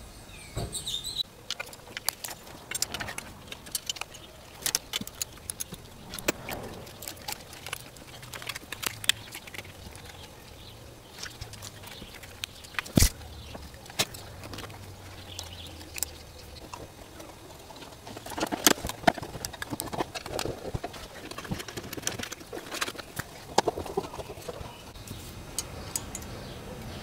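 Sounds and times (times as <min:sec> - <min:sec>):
hand tools clicking and knocking: 0:01.3 - 0:27.0.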